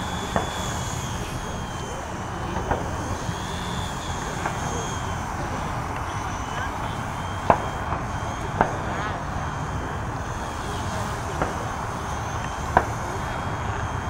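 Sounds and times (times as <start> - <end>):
helicopter motor whine: 0.0 - 14.0.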